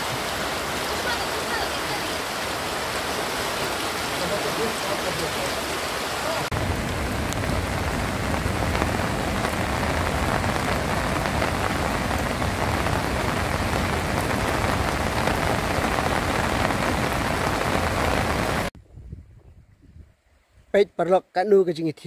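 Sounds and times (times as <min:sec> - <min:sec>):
heavy rain: 0:00.0 - 0:18.7.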